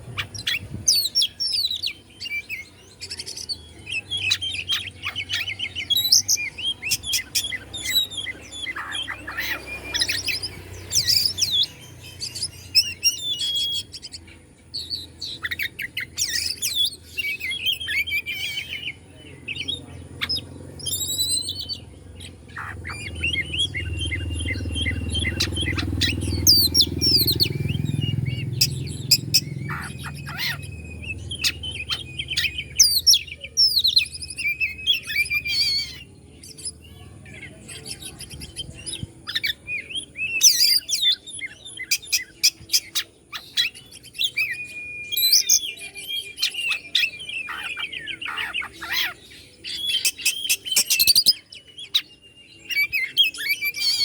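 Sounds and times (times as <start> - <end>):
bird singing whistles and trills: 0.0 - 54.0.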